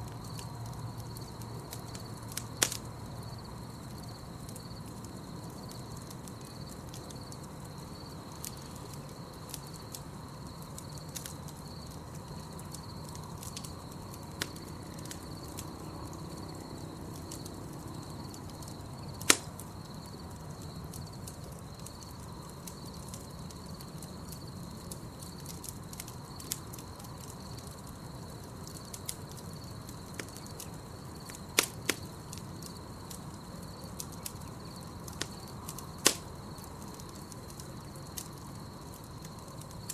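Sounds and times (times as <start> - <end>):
burning wood popping: 0.0 - 39.9
campfire crackling: 0.0 - 39.9
crickets chirping: 0.0 - 39.9.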